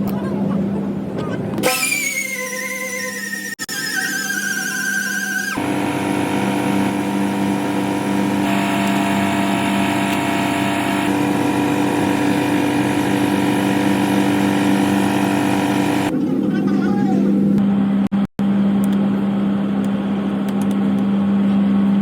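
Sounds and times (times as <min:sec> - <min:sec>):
steady motor hum: 0:04.1 - 0:22.0.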